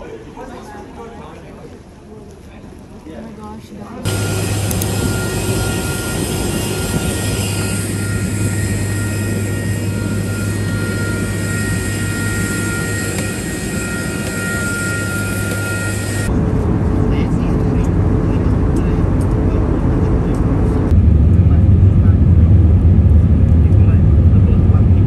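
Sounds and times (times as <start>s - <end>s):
jet engine rush and whine: 4.1s - 25.0s.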